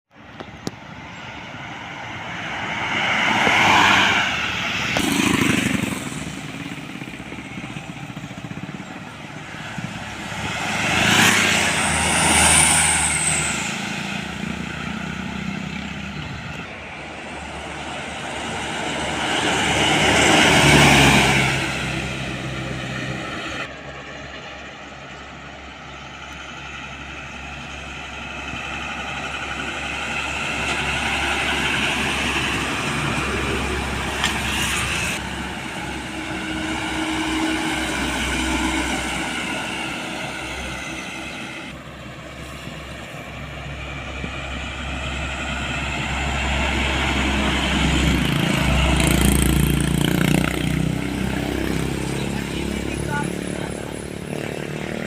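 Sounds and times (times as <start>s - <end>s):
heavy trucks driving past: 0.1s - 55.0s.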